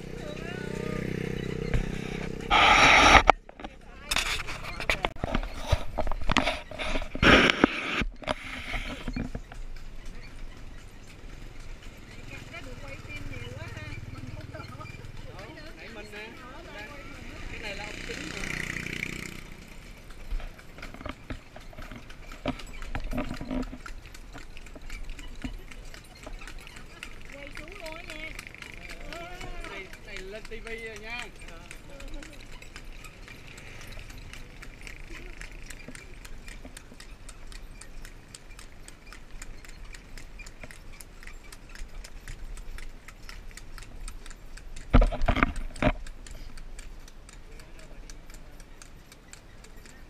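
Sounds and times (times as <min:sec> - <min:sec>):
cart rattling: 0:00.0 - 0:08.3, 0:08.9 - 0:50.0
horse hooves clopping: 0:00.0 - 0:50.0.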